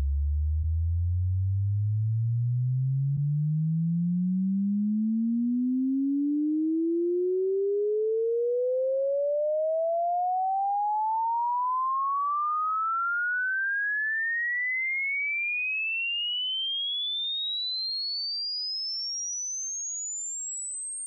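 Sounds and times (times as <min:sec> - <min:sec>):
sine tone rising in pitch: 0:00.0 - 0:21.0.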